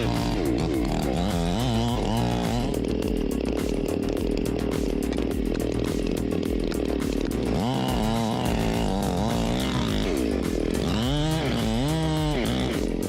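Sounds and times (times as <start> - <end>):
background music: 0.0 - 13.0
chainsaw running: 0.0 - 13.0.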